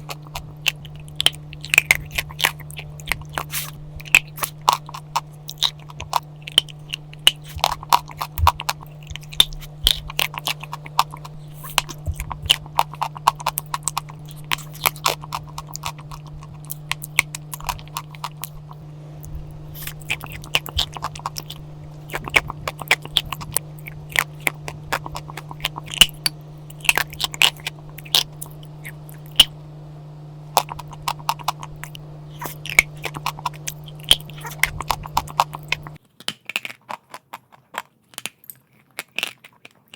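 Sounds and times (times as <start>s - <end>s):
chalk crunching: 0.0s - 36.0s
steady low hum: 0.0s - 36.0s.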